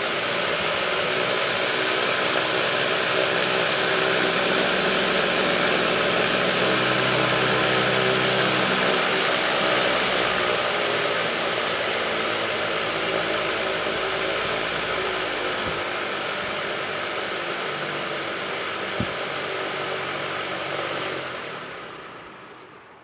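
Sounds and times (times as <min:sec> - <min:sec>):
electric fan running: 0:00.0 - 0:23.0.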